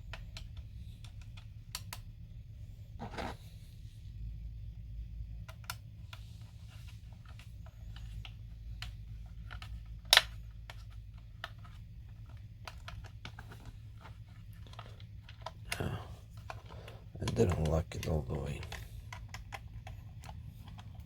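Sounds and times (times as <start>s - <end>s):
plastic parts clicking and tapping: 0.0s - 2.1s, 5.4s - 21.0s.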